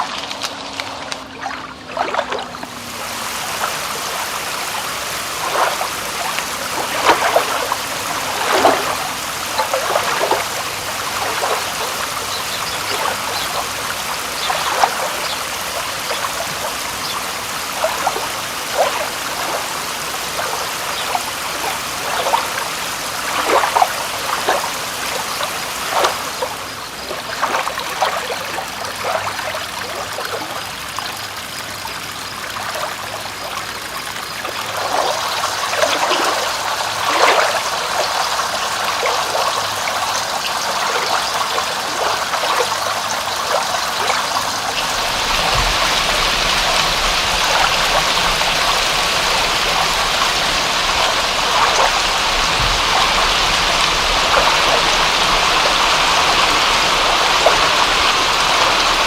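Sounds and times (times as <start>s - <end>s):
water trickling and splashing: 0.0s - 59.0s
rain hiss: 2.6s - 59.0s.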